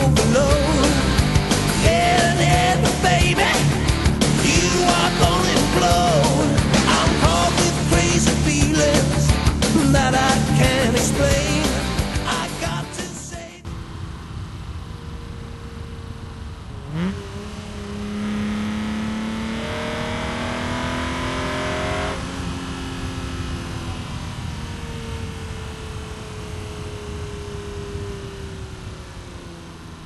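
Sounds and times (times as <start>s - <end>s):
car engine revving: 0.0s - 12.4s, 13.6s - 30.0s.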